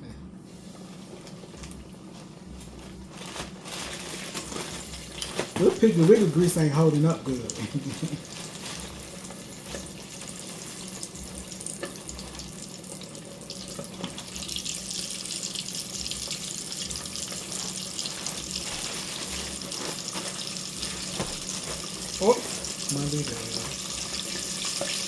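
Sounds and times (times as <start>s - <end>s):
chicken wings sizzling in grease: 3.4s - 25.0s.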